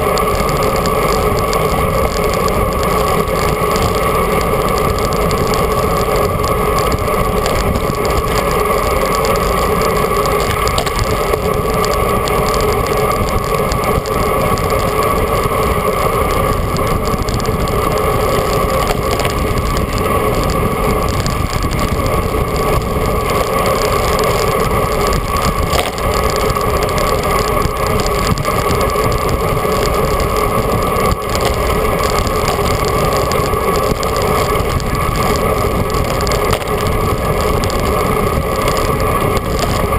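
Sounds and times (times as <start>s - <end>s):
constant hum: 0.0s - 39.9s
wind and road noise: 0.0s - 39.9s.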